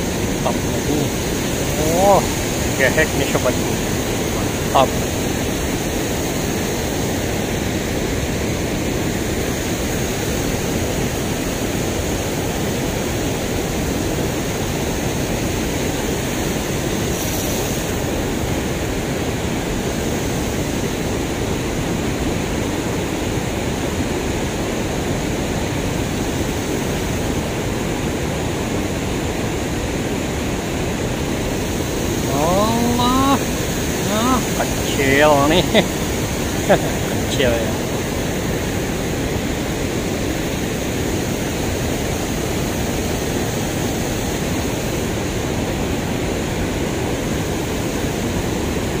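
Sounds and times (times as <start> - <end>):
water rushing over weir: 0.0 - 49.0.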